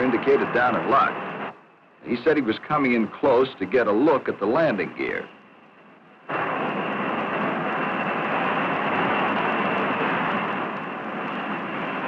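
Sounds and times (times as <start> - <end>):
jet engine rush with high whine: 0.0 - 12.0.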